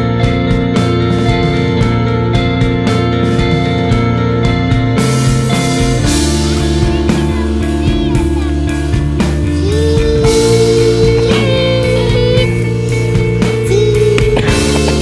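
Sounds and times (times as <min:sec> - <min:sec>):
rock music with drums and guitar: 0:00.0 - 0:15.0.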